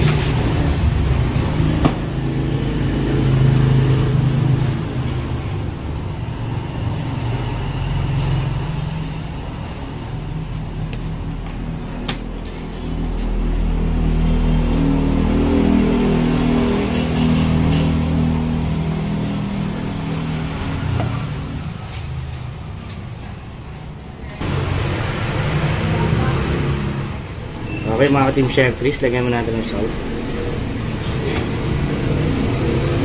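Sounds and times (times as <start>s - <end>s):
engine running low hum: 0.0s - 27.7s, 28.3s - 33.0s.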